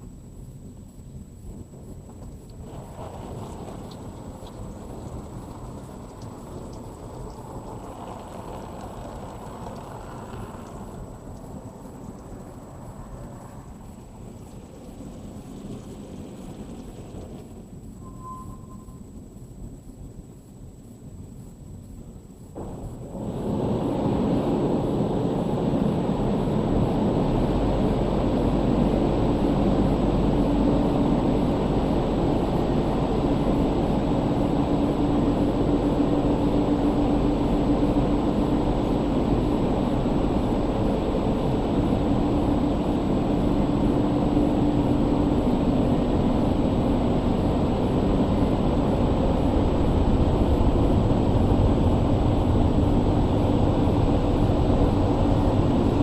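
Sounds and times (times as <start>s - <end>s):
car wash blowers roaring: 1.5s - 17.9s, 22.6s - 56.0s.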